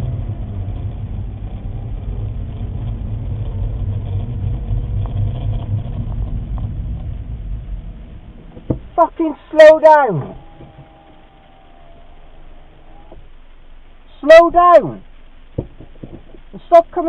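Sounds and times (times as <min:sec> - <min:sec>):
car engine with road rumble: 0:00.0 - 0:17.0.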